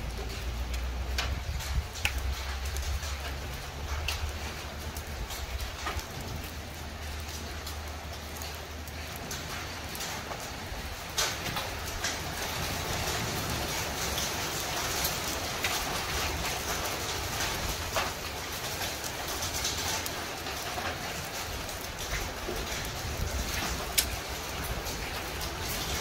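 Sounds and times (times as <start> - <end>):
hailstones clicking and knocking: 0.0 - 26.0
rain hissing: 0.0 - 26.0.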